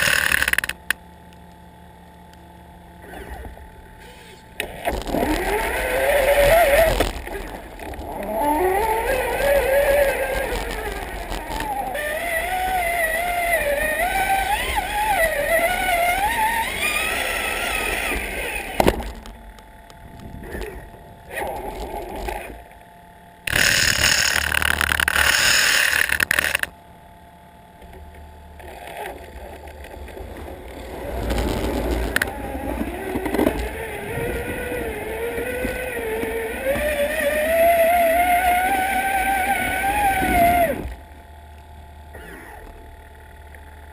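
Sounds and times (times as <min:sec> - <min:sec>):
electric motor whining: 0:00.0 - 0:01.1, 0:02.9 - 0:43.9.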